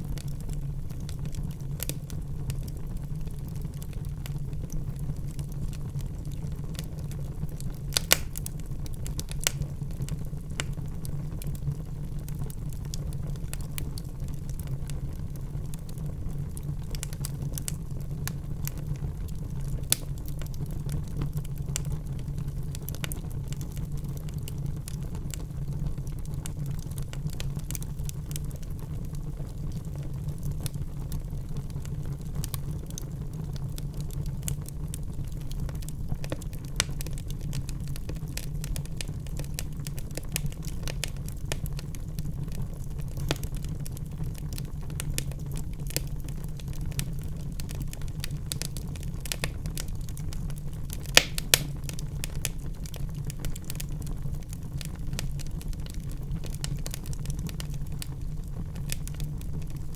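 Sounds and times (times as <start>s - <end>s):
low rumble of flame: 0.0s - 59.9s
fire pops and snaps: 0.1s - 59.9s.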